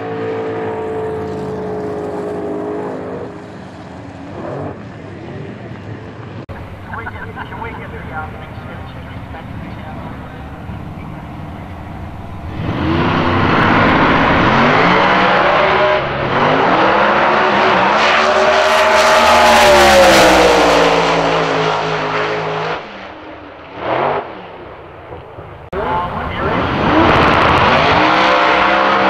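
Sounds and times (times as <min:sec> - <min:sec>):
drag cars launching and racing: 0:00.0 - 0:29.0.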